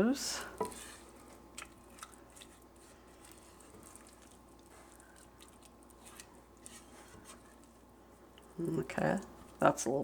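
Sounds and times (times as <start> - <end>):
beans squishing being mashed: 0.2 - 9.8.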